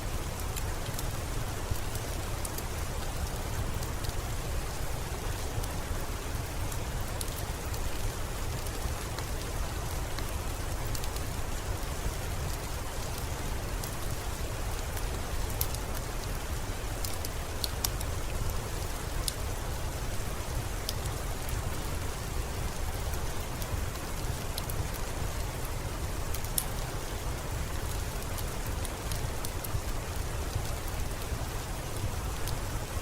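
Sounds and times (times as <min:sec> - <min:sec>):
steady rainfall: 0:00.0 - 0:33.0.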